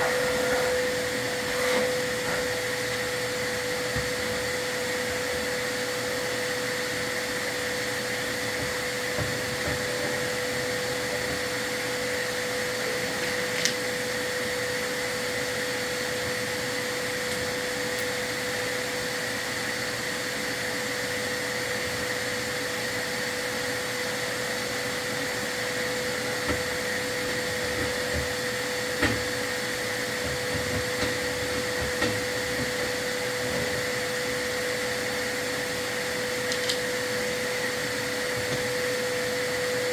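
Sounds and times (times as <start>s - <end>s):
vacuum cleaner whine: 0.0s - 39.9s.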